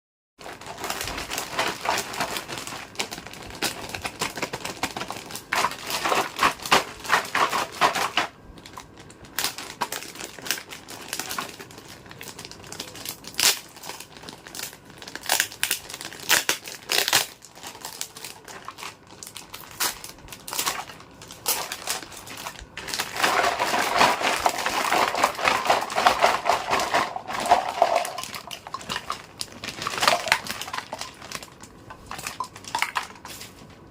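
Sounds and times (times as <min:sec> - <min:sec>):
plastic packaging crinkling: 0:00.4 - 0:33.9.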